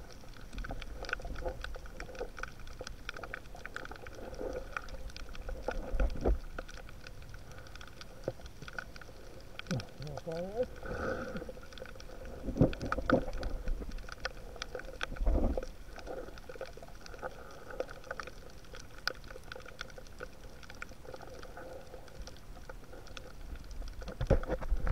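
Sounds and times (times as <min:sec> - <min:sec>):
faint steady hum: 0:00.0 - 0:24.9
rumble of moving water: 0:00.0 - 0:24.9
underwater clicks and crackles: 0:00.0 - 0:24.9.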